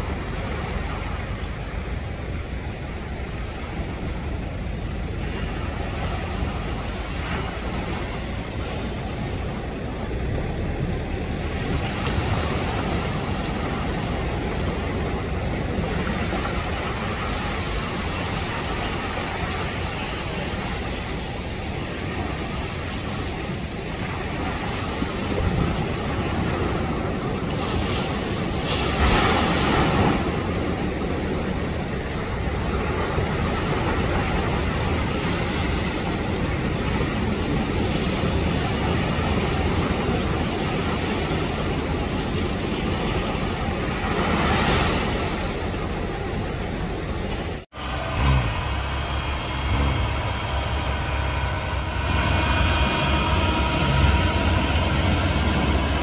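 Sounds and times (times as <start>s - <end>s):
outboard motors running: 0.0s - 56.0s
surf breaking: 0.0s - 56.0s.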